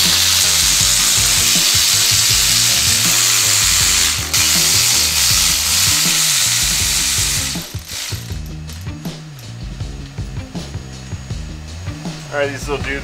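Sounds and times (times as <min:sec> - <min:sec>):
loud steady hiss: 0:00.0 - 0:08.3, 0:09.0 - 0:13.0
background music with bass line: 0:00.0 - 0:13.0.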